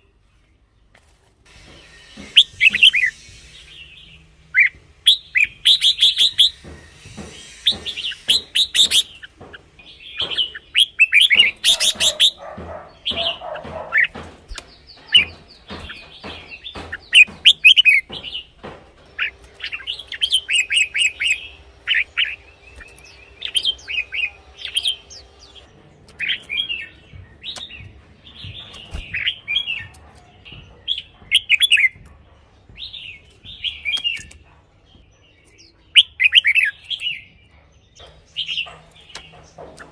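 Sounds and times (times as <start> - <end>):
bird singing warbled phrases: 2.2 - 39.9.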